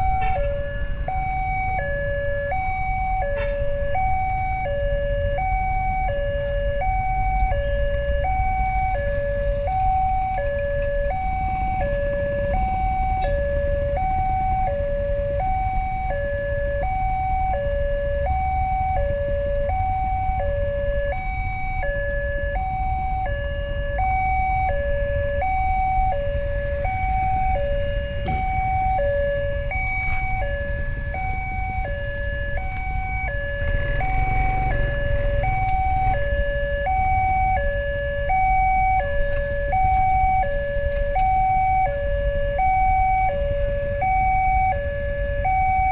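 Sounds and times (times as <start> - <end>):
low rumble of road traffic: 0.0 - 45.9
two-tone crossing alarm: 0.0 - 45.9.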